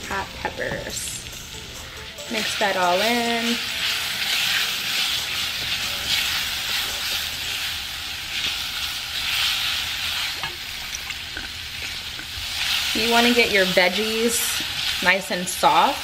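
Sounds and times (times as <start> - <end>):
rice sizzling in oil: 2.2 - 16.0.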